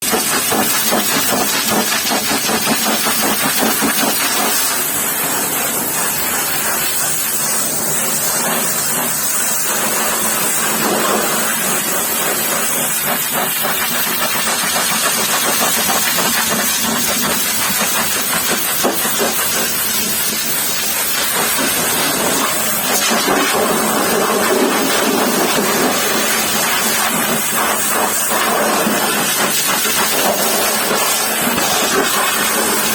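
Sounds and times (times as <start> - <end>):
pressure washer spraying: 0.0 - 32.9.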